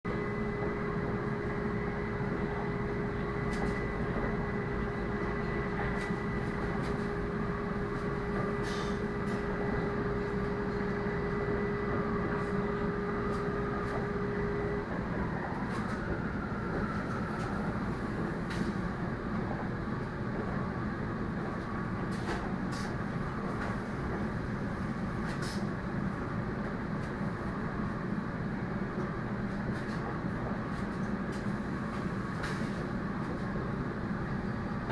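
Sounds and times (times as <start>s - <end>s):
constant hum tone: 0.1s - 34.9s
train cabin rumble: 0.1s - 34.9s.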